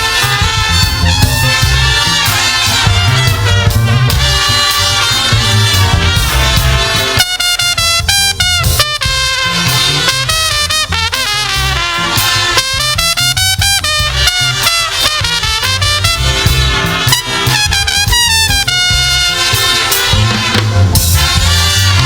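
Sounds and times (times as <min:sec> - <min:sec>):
bass and drum beat: 0:00.0 - 0:22.0
lead melody in bending phrases: 0:00.0 - 0:22.0.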